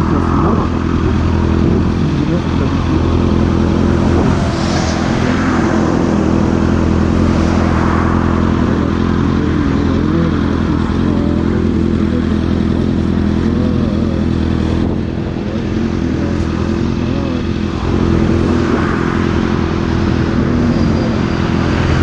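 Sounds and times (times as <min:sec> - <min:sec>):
motorcycle engine idling: 0:00.0 - 0:04.4, 0:08.1 - 0:22.0.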